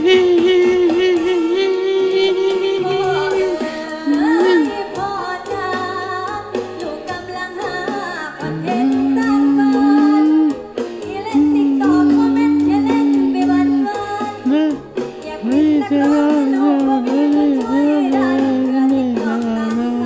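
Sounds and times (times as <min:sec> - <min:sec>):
band accompaniment: 0:00.0 - 0:20.0
girl singing: 0:00.0 - 0:20.0.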